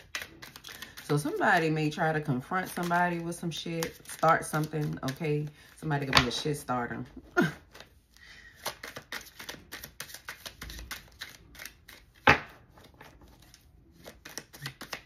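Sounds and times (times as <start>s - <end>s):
cards being shuffled: 0.0s - 6.6s, 7.6s - 15.0s.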